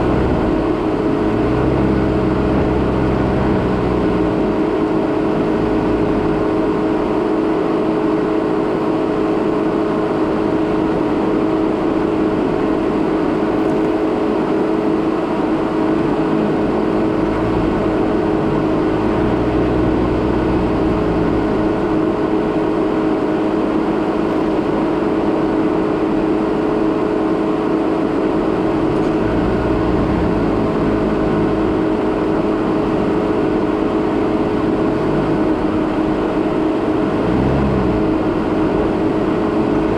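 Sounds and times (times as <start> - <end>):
tyres rumbling on gravel road: 0.0 - 12.0, 12.8 - 39.9
car engine droning: 0.0 - 39.9.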